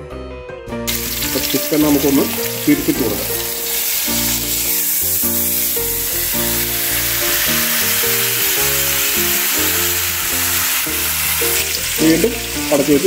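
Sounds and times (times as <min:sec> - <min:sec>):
background music: 0:00.0 - 0:13.0
chicken sizzling in a frying pan: 0:00.9 - 0:13.0.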